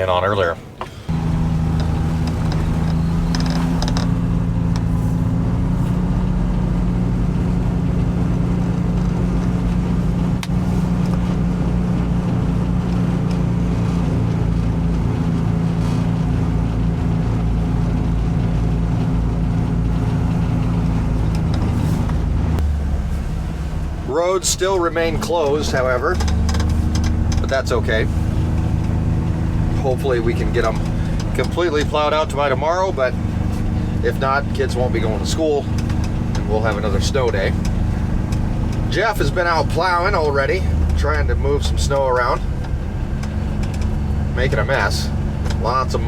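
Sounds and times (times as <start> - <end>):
road noise: 0.0 - 46.0
vehicle engine running: 0.0 - 46.0.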